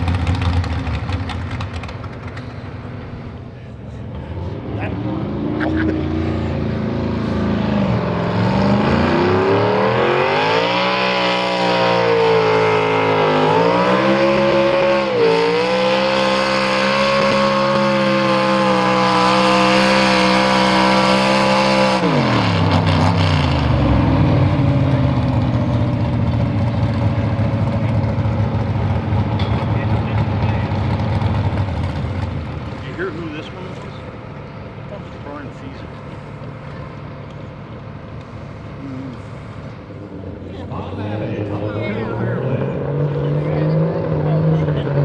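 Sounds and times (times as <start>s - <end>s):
tractor engine under full load: 0.0s - 9.5s, 11.8s - 45.0s.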